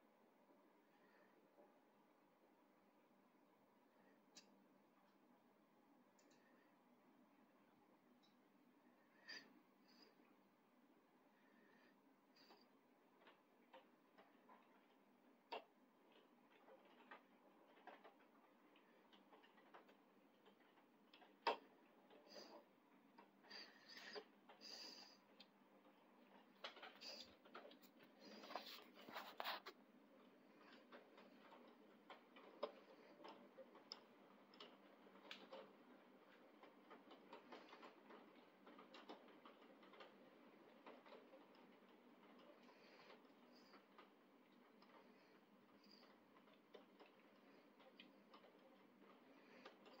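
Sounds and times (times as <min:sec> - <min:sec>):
faint ticking and tapping: 0:00.2 - 0:50.0.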